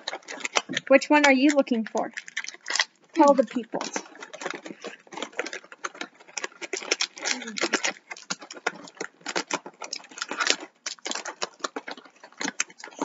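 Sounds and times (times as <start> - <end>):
small pieces clattering: 0.0 - 13.0
toy packaging crinkling: 0.0 - 13.0.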